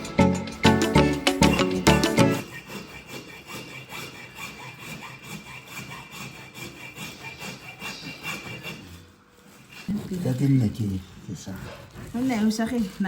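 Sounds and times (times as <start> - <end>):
rasping strokes: 0.6 - 13.0.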